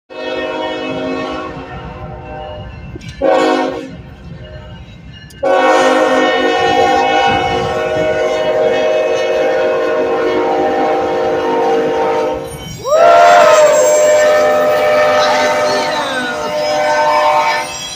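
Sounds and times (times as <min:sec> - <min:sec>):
locomotive air horn: 0:00.1 - 0:04.0, 0:05.4 - 0:17.9
passing train rumble: 0:00.1 - 0:17.9.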